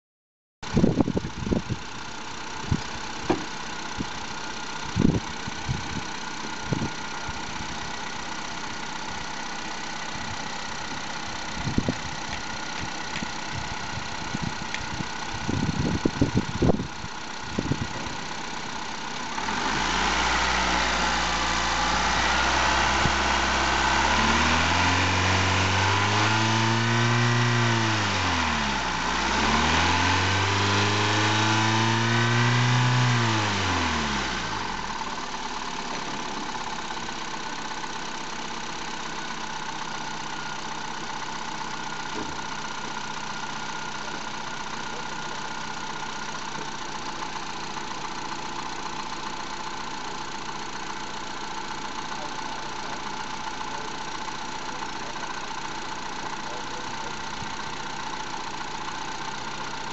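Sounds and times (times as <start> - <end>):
car engine idling and revving: 0.6 - 59.9.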